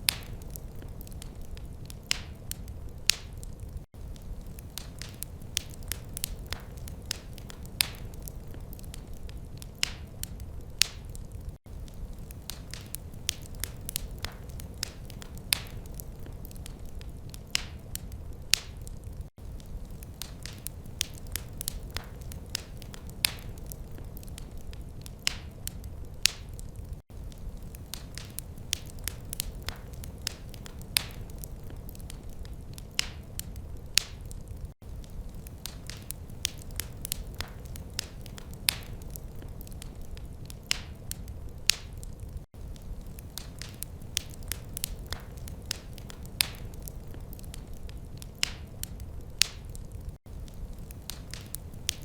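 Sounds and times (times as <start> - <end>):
low rumble of fire: 0.0 - 52.0
wood fire crackling: 0.0 - 52.0.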